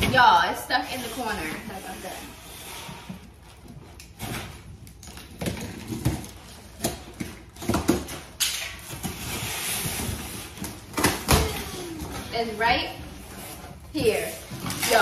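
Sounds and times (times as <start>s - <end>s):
cardboard scraping and rustling: 0.1s - 15.0s.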